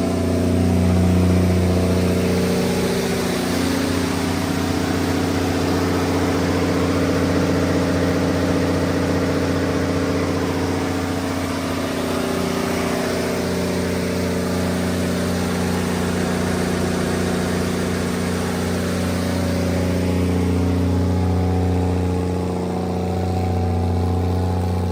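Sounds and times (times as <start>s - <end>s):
diesel generator running: 0.0s - 24.9s.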